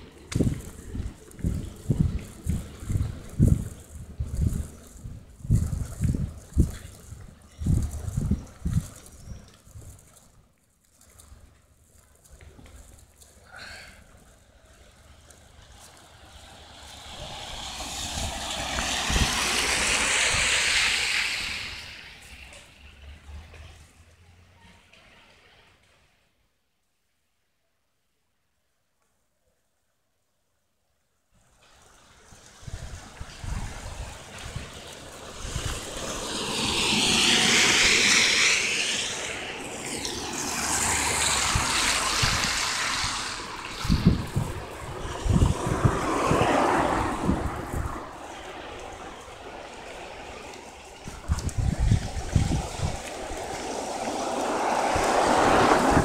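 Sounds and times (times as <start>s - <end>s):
wind rumble on microphone: 0.0s - 13.3s, 14.8s - 22.5s, 31.9s - 56.0s
vehicle tyre noise passing: 0.0s - 24.9s, 31.4s - 56.0s.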